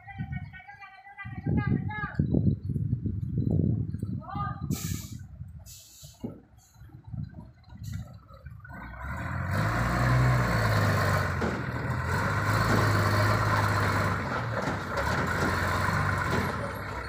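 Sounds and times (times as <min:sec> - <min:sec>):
diesel truck engine: 0:02.6 - 0:17.0.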